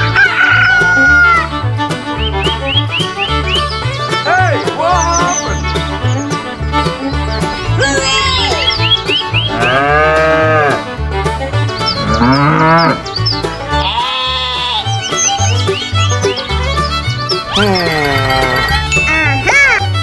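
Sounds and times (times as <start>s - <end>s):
farm animal calls: 0.0s - 1.5s, 2.2s - 19.8s
upbeat background music: 0.0s - 20.0s.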